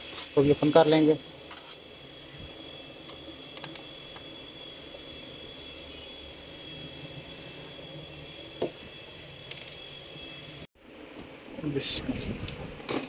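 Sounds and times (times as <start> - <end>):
thin high whine: 0.0 - 10.7.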